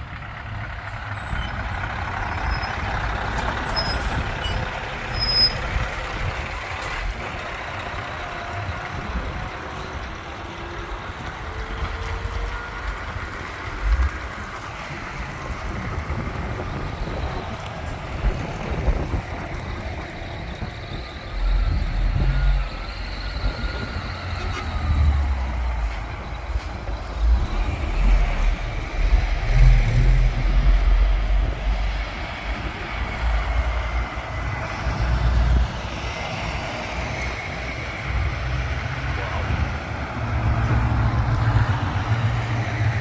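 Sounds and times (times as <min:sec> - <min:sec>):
trucks driving by: 0:00.0 - 0:43.0.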